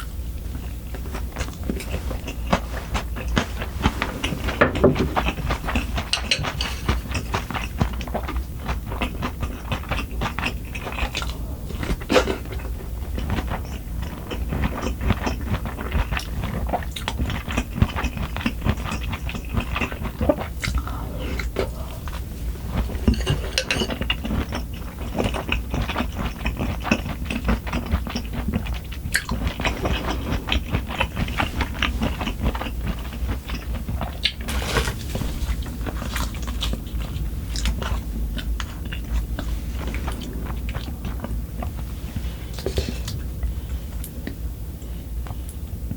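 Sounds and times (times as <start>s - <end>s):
chewing and crunching food: 0.0s - 45.9s.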